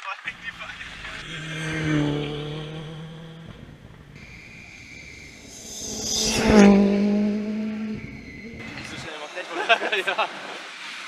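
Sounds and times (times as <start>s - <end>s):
rally car engines at full throttle: 0.0s - 9.2s.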